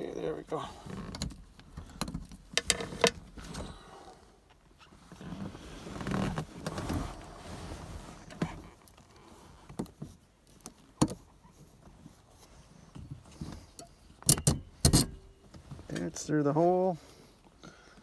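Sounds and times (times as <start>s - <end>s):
rustling and scraping of parts: 0.8s - 3.7s, 4.4s - 16.8s.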